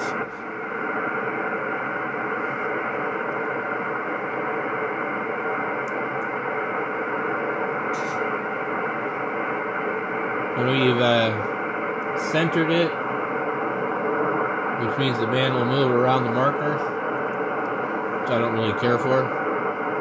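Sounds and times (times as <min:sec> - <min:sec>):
faint steady tones: 0:00.0 - 0:20.0
radio static: 0:00.0 - 0:20.0.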